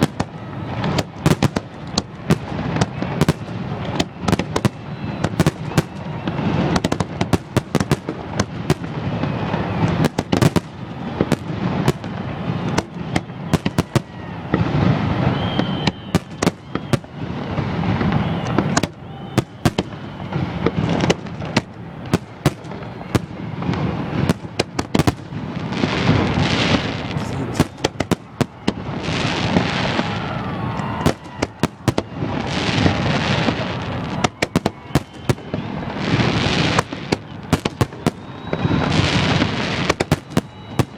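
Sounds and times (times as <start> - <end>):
crackling firework shells: 0.0 - 40.9
fireworks bangs and cracks: 0.0 - 40.9.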